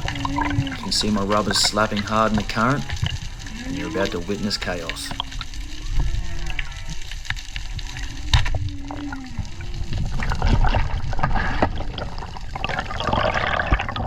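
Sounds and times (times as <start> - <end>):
underwater current rushing: 0.0 - 14.0.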